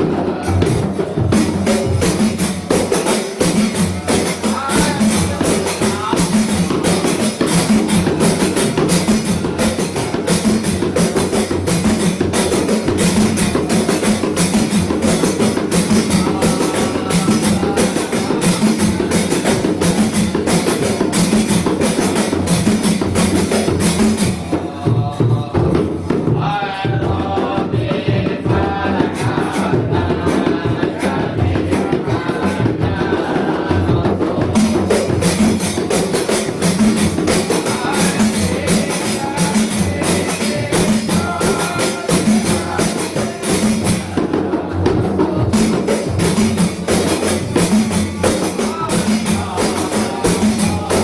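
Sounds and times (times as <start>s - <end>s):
frame drums fast rhythm: 0.0s - 51.0s
voices singing a chant: 0.0s - 51.0s.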